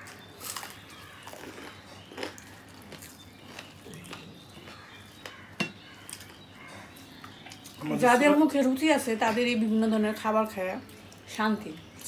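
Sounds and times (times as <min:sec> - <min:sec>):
people chewing and smacking: 0:00.0 - 0:09.7, 0:10.8 - 0:12.0.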